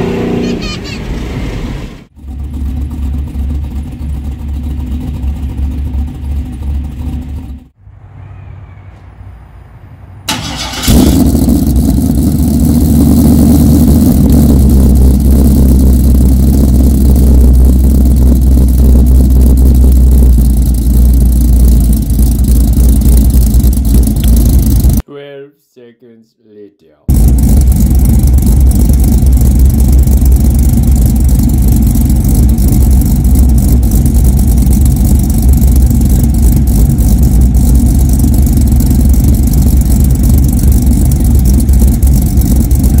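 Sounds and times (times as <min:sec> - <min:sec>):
car engine idling loudly: 0:02.1 - 0:07.8, 0:10.3 - 0:25.0, 0:27.1 - 0:43.0.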